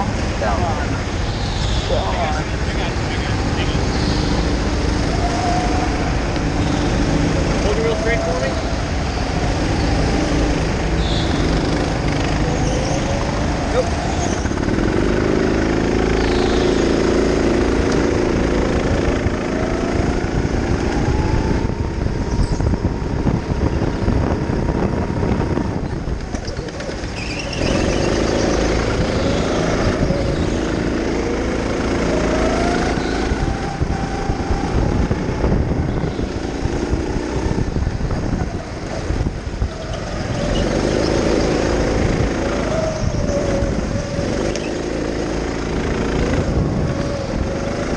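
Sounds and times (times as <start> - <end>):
go-kart engine revving: 0.0 - 47.9.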